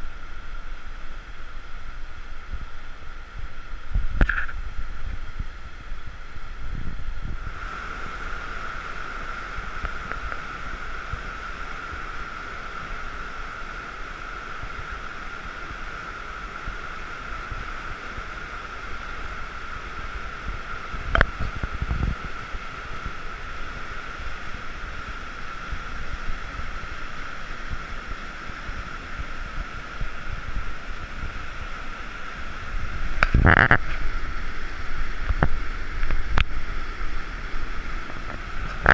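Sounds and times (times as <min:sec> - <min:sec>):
whitewater rapids rushing: 0:07.5 - 0:38.9.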